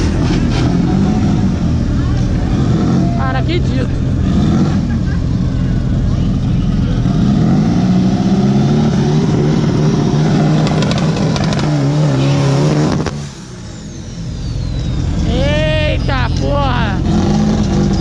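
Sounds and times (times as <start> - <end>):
car engine revving hard: 0.0 - 18.0
engine crackles: 0.0 - 18.0.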